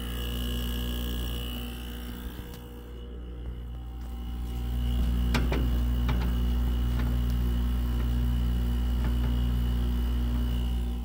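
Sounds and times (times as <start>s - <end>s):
faint high whine: 0.0s - 11.0s
heat pump humming: 0.0s - 11.0s.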